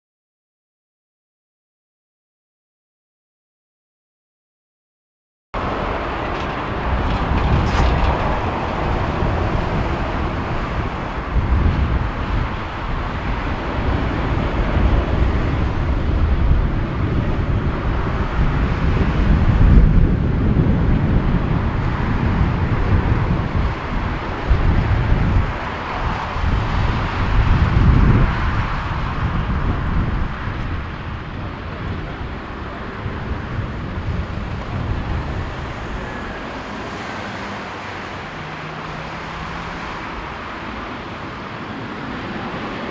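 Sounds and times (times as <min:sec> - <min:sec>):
gusty wind buffeting microphone: 0:05.6 - 0:42.9.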